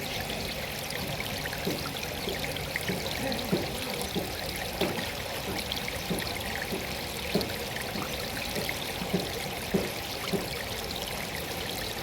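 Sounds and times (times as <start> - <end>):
falling water pouring: 0.0 - 12.0
water gurgling plops: 0.0 - 12.0.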